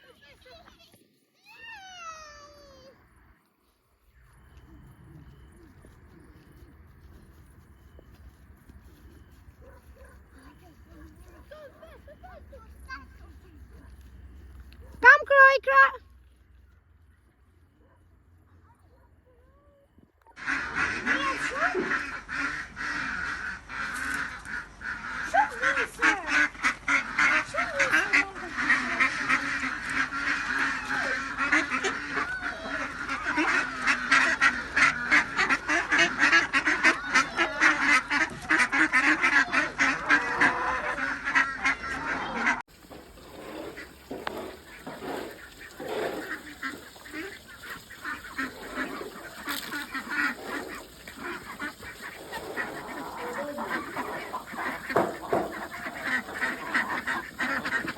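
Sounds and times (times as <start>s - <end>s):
ducks and geese calling: 4.1s - 16.0s, 20.3s - 57.9s.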